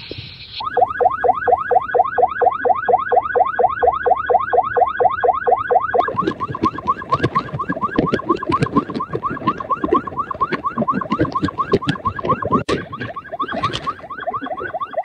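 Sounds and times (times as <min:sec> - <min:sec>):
car alarm: 0:00.6 - 0:15.0.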